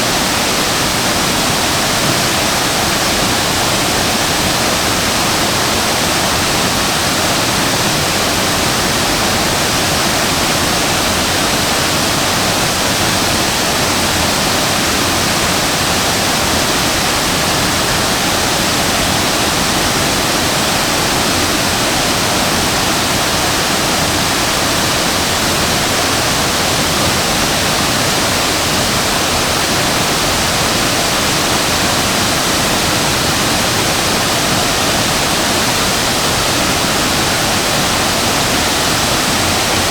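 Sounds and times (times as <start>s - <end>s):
waterfall crashing: 0.0s - 39.9s.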